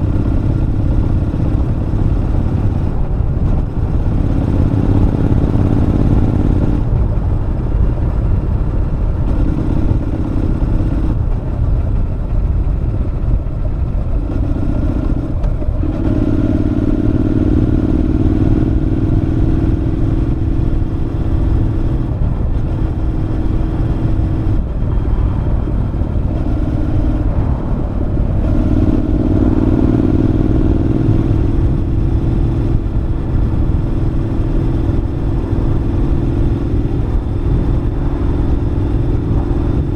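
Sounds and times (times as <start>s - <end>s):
motorcycle exhaust note: 0.0s - 39.9s
wind rumble: 0.0s - 39.9s.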